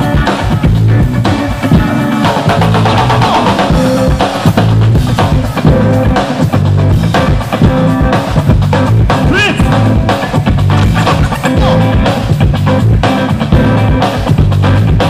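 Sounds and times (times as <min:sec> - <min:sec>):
bass line: 0:00.0 - 0:15.0
dance music with drum beat: 0:00.0 - 0:15.0.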